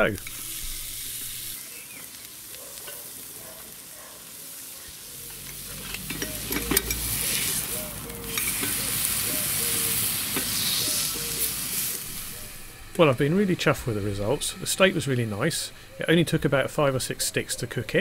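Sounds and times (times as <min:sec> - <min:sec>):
steak sizzling on griddle: 0:00.0 - 0:15.6.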